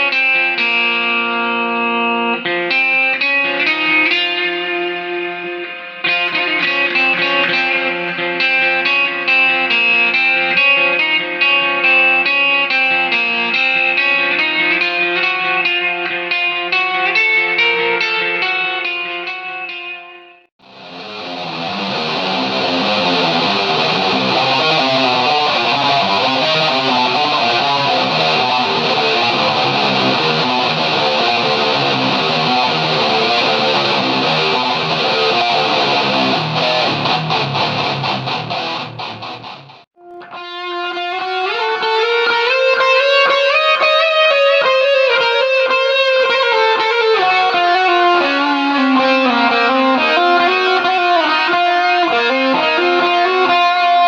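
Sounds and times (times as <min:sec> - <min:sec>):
clean electric guitar notes: 0:00.0 - 0:54.0.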